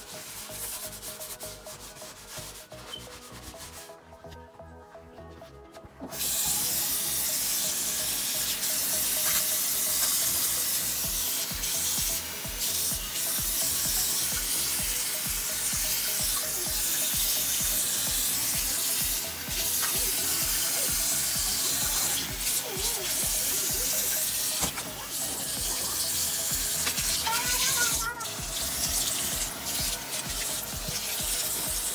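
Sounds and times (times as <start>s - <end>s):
faucet running into steel sink: 6.1s - 31.9s.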